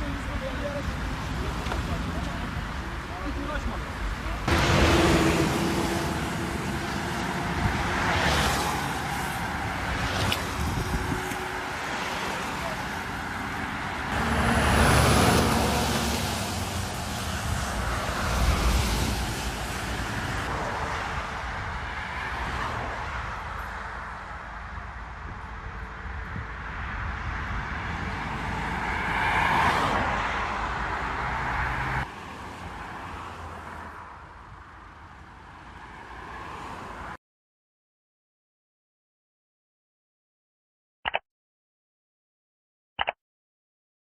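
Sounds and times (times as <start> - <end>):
traffic on wet road: 0.0 - 37.2
vehicles passing close: 0.0 - 37.2.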